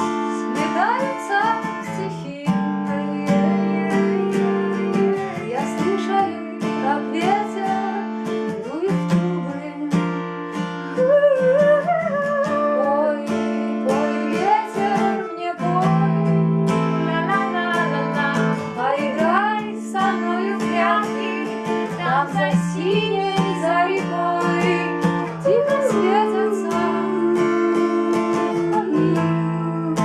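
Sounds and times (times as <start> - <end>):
acoustic guitar chords: 0.0 - 30.0.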